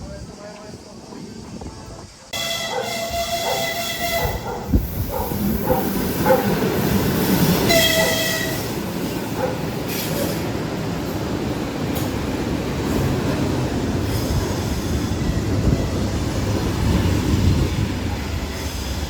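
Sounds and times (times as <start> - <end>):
train cars rumbling and hissing: 0.0 - 19.0.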